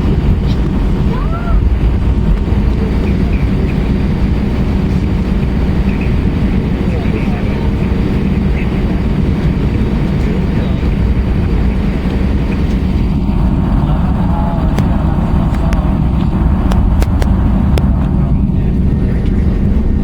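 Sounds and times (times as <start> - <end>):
jet engine rumble in cabin: 0.0 - 20.0.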